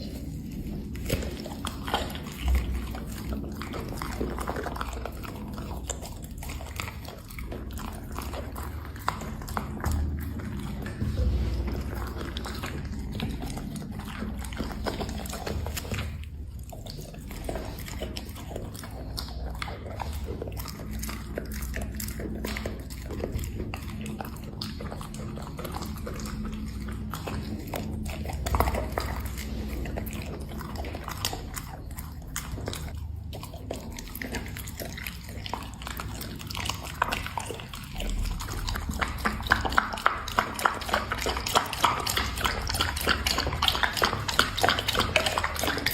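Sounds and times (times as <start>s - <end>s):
dog chewing and biting: 0.0s - 45.9s
low hum: 0.0s - 45.9s.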